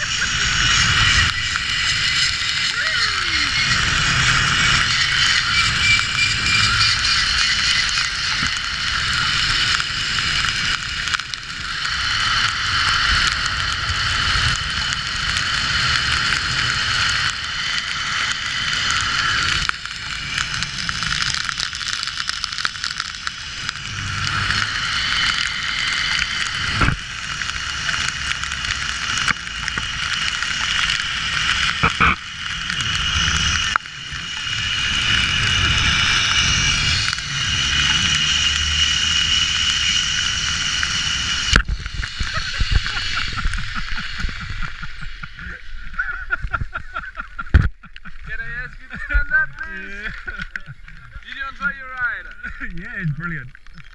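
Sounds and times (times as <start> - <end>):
zip line pulleys whirring: 0.0 - 47.6
wind rumble on microphone: 0.0 - 51.7.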